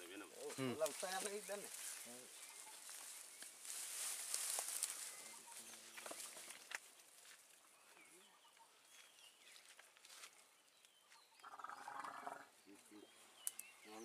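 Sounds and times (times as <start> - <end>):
faint bird chirps: 0.5 - 6.8, 7.5 - 14.0.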